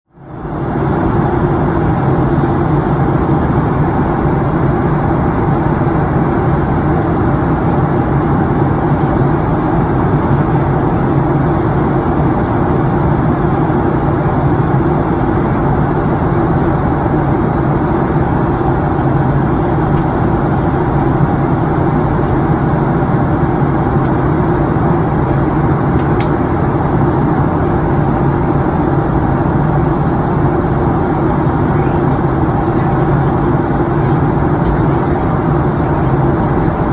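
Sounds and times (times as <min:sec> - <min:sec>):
low hum of jet engines: 0:00.1 - 0:36.9.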